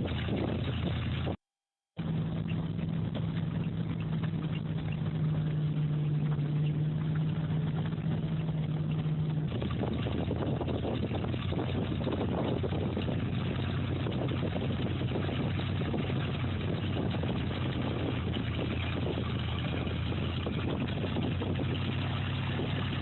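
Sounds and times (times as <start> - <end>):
engine running steadily: 0.0 - 1.4, 2.0 - 23.0.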